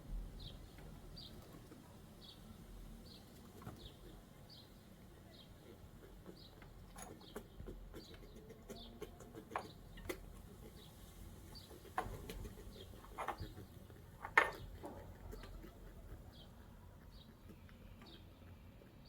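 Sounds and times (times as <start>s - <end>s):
small bird calling: 2.2s - 19.0s.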